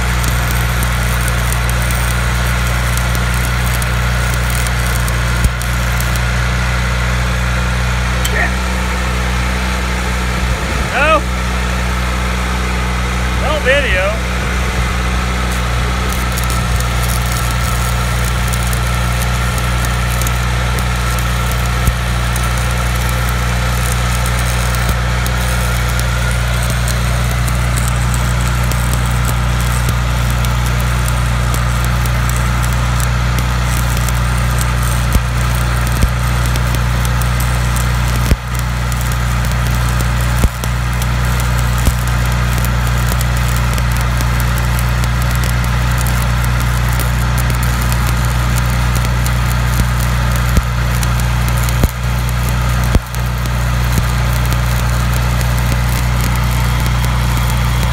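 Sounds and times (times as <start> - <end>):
welding arc pops: 0.0 - 6.4, 8.2 - 8.6, 10.8 - 11.2, 13.4 - 57.9
low engine drone: 0.0 - 57.9
welding arc crackling and hissing: 0.0 - 57.9.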